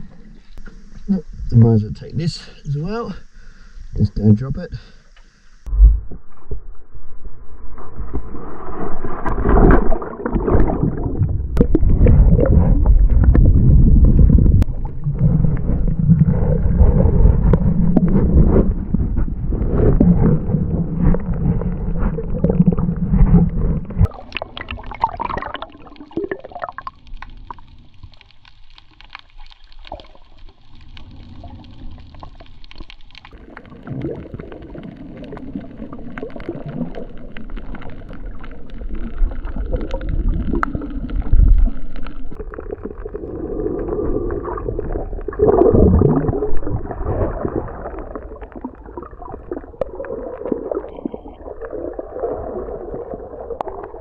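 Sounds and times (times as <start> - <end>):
underwater gurgling and bubbling: 5.7 - 54.0.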